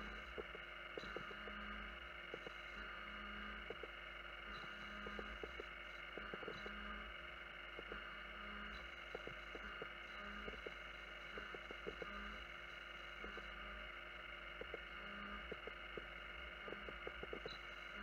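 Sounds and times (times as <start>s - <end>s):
milling machine high whine: 0.0s - 18.0s.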